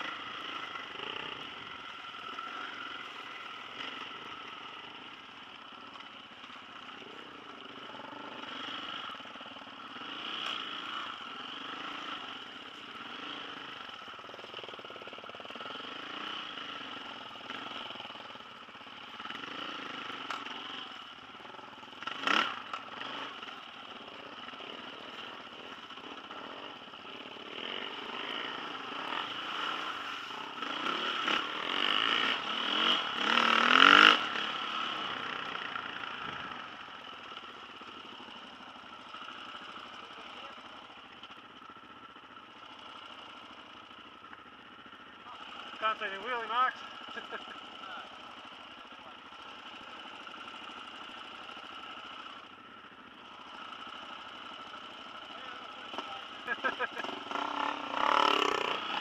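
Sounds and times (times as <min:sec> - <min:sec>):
dirt bike engine revving: 0:00.0 - 0:05.2, 0:06.8 - 0:41.0, 0:45.0 - 0:52.4, 0:53.2 - 0:59.0.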